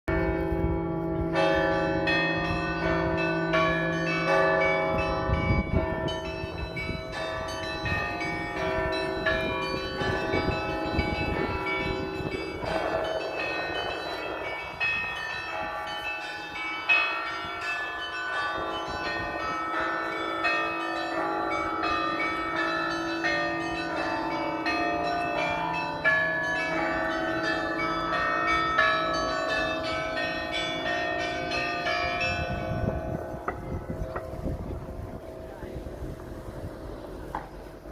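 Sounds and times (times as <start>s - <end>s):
small bells ringing: 0.1s - 34.6s
large bell humming: 0.1s - 37.9s.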